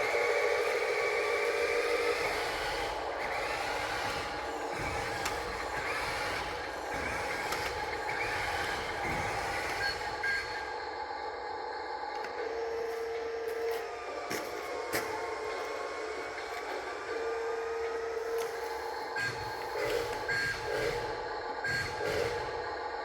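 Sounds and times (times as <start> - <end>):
mechanical whine of motors: 0.0 - 23.0.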